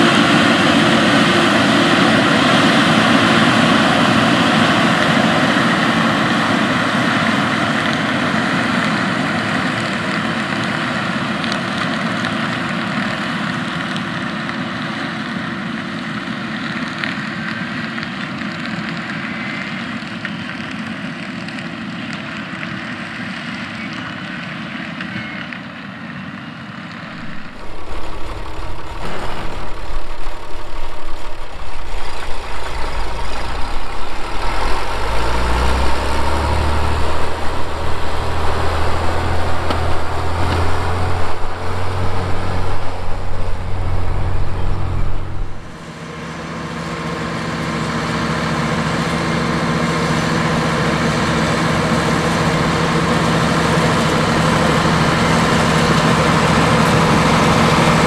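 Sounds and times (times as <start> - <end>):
tractor engine running: 0.0 - 58.0
uneven low tractor engine rumble: 0.0 - 58.0.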